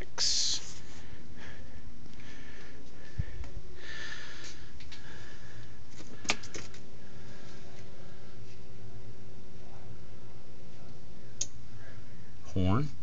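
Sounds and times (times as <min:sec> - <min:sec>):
faint steady electrical tone: 0:00.0 - 0:13.0
low room hum: 0:00.0 - 0:13.0.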